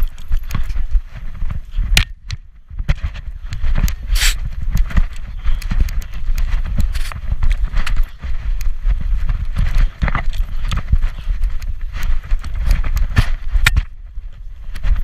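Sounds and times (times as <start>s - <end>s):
low rumble of handling and wind: 0.0s - 15.0s.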